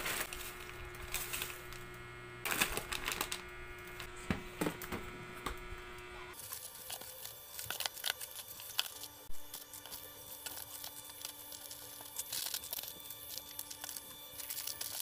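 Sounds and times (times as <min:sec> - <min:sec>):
plastic packets crinkling: 0:00.0 - 0:01.9, 0:02.5 - 0:04.1, 0:06.4 - 0:15.0.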